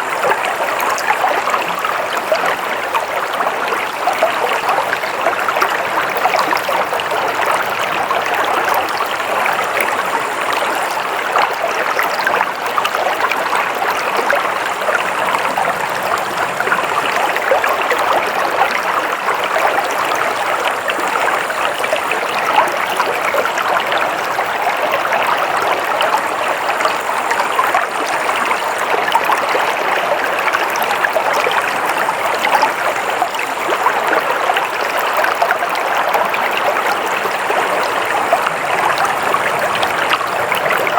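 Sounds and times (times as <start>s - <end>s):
stream flowing and splashing: 0.0s - 40.9s.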